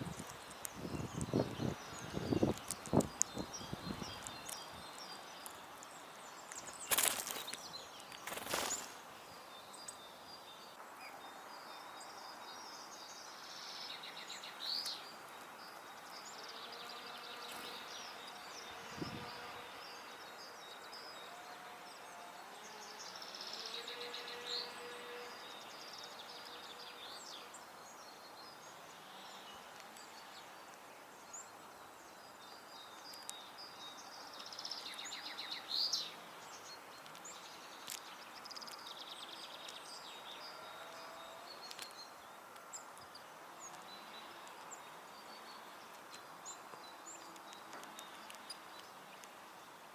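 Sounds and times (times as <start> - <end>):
outdoor background hiss: 0.0 - 49.9
songbirds trilling: 0.0 - 49.9.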